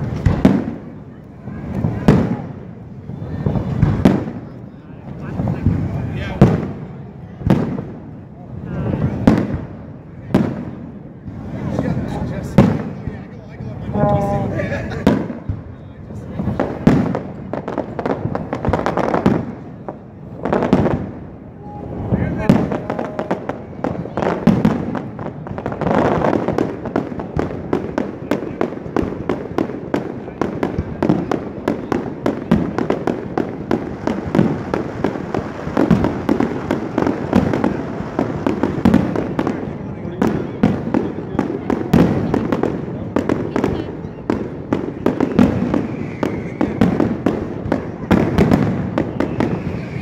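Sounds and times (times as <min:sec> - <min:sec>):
fireworks bursting: 0:00.0 - 0:50.0.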